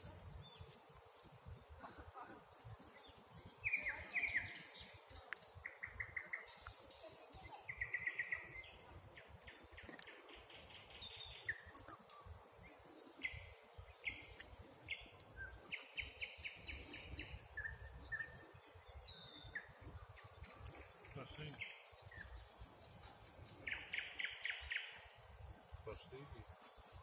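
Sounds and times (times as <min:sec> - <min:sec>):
small birds singing and chirping: 0:00.0 - 0:27.0.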